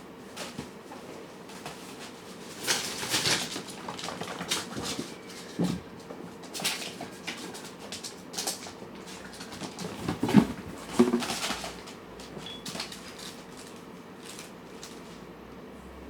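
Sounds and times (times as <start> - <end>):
cats eating from bowls: 1.8 - 15.6.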